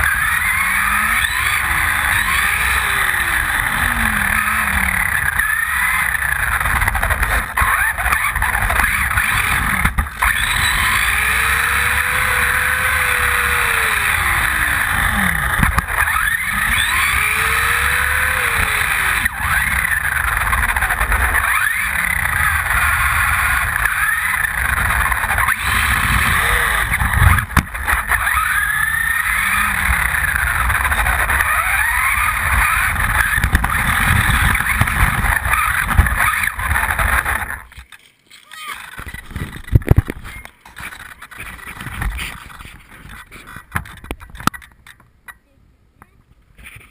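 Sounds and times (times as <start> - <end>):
tyres rumbling on asphalt: 0.0 - 38.0
rc truck motor whining: 0.0 - 44.7.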